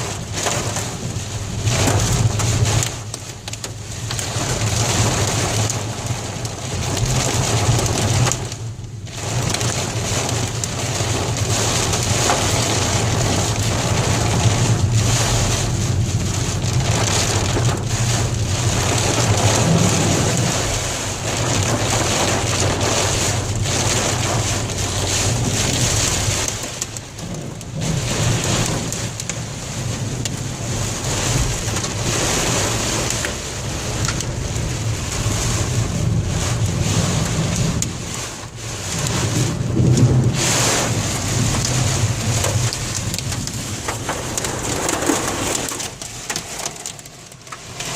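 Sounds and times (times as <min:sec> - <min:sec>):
car and tyres humming on wet road: 0:00.0 - 0:47.9
heavy rain on car roof: 0:00.0 - 0:47.9.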